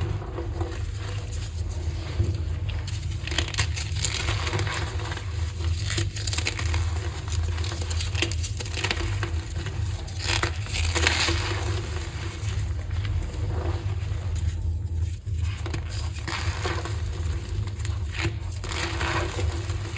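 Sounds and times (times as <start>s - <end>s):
chalk crushing and crackling: 0.0s - 19.9s.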